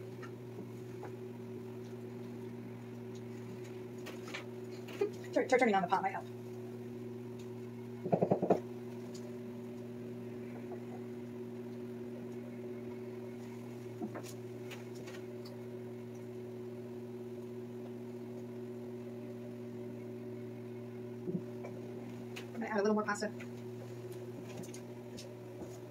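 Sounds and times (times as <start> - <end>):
appliance motor hum: 0.0 - 25.9.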